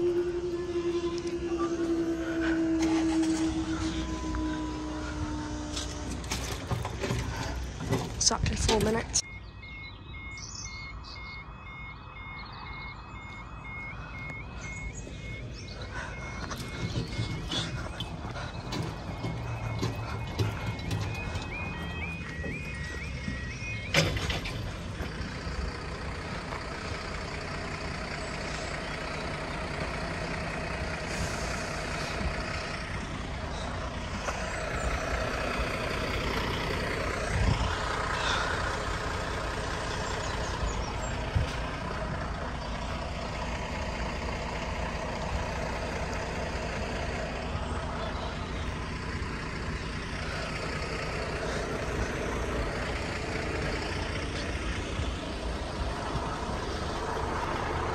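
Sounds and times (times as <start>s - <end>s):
large engine running: 0.0s - 57.9s.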